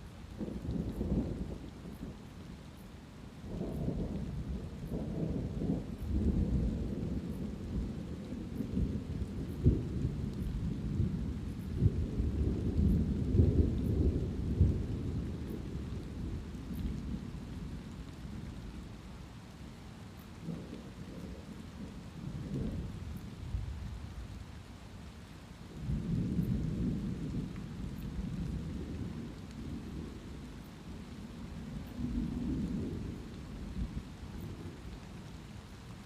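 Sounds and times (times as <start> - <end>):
light rain: 0.0 - 36.0
thunder rumbling: 0.3 - 2.2, 3.4 - 18.9, 20.4 - 24.3, 25.7 - 35.3.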